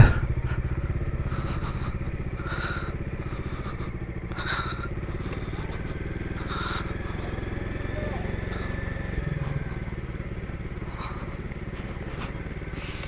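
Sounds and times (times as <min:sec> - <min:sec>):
engine revving blips: 0:00.0 - 0:13.0
motorcycle engine idling: 0:00.0 - 0:13.0.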